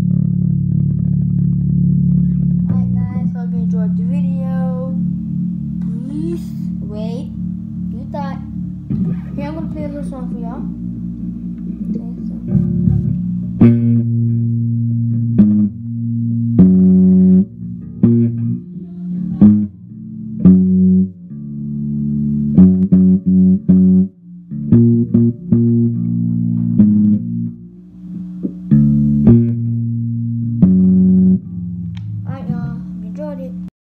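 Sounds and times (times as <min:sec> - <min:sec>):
electric bass guitar notes: 0:00.0 - 0:33.7.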